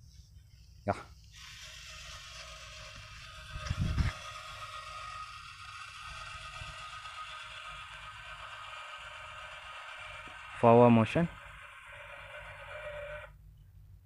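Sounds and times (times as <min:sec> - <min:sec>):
small gear motors whirring: 0:01.1 - 0:13.4.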